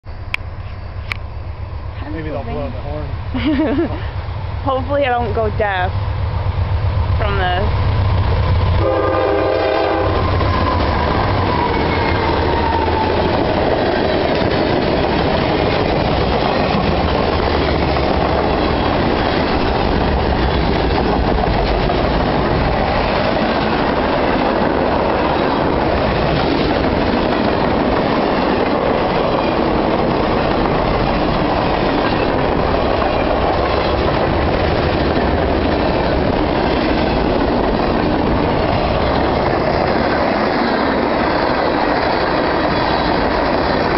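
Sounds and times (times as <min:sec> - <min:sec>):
train wheels rumbling on track: 0:00.1 - 0:43.9.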